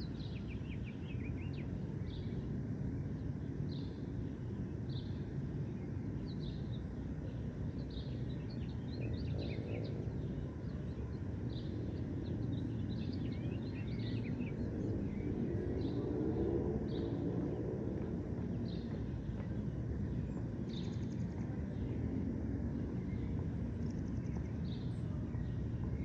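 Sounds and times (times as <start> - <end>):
low background rumble: 0.0 - 26.0
small birds chirping: 0.0 - 26.0.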